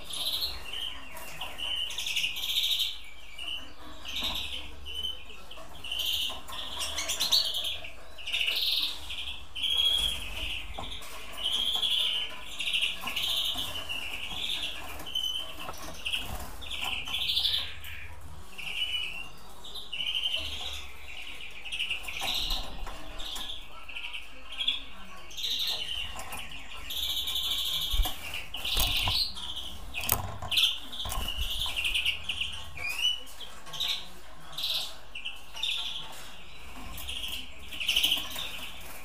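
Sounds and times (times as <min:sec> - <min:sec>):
finches chirping: 0:00.0 - 0:39.0.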